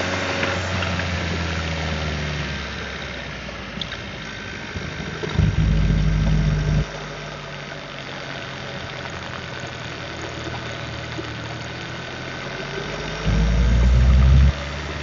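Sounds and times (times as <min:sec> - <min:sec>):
car engine running: 0:00.7 - 0:15.0.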